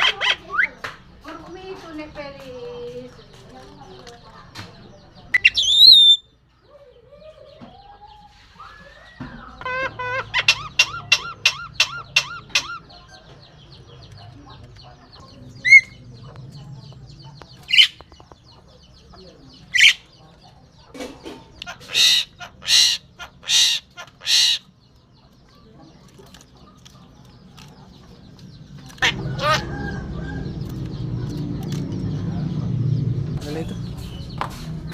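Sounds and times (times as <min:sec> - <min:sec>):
starling calling: 0:00.0 - 0:00.9, 0:05.1 - 0:06.4, 0:07.9 - 0:34.9.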